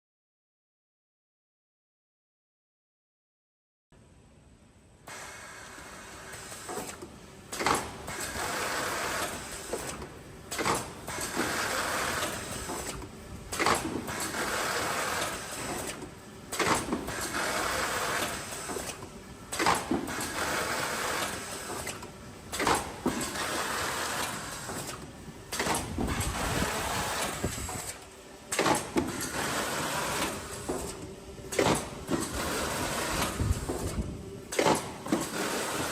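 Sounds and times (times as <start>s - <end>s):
box taping machine running: 6.4s - 35.9s
machine clack: 6.6s - 35.9s.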